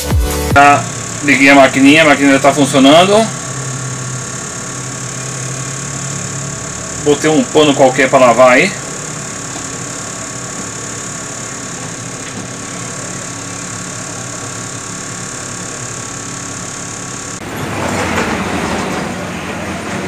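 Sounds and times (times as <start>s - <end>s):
washing machine hum: 0.5s - 20.0s.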